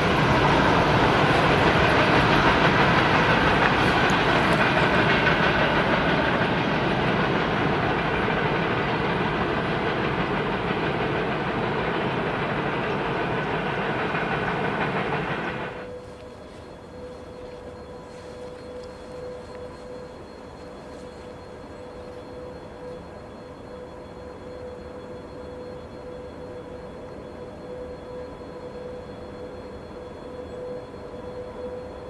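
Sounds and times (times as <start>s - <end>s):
train running on rails: 0.0s - 32.0s.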